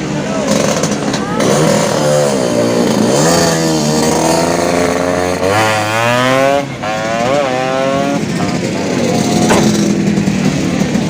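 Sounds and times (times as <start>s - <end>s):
scooter engine revving: 0.1s - 11.0s.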